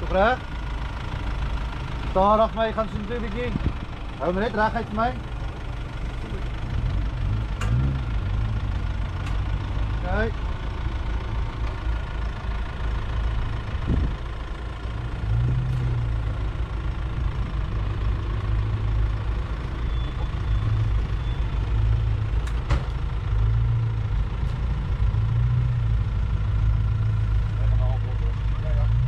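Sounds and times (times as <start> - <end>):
pickup engine idling: 0.0 - 29.0.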